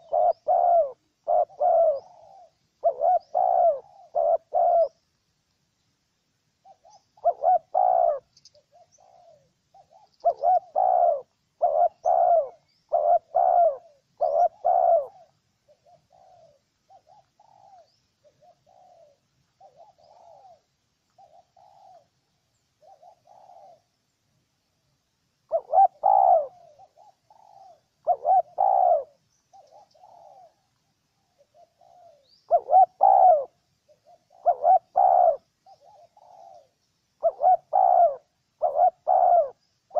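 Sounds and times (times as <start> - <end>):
dove cooing: 0.0 - 5.0, 6.6 - 24.0, 25.5 - 39.9.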